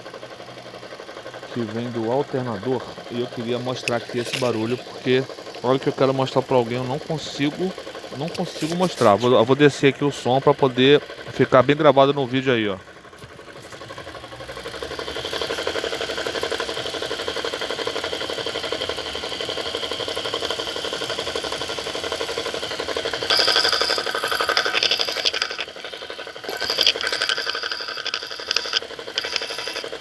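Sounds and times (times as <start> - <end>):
alternator rattling and knocking: 0.0 - 30.0.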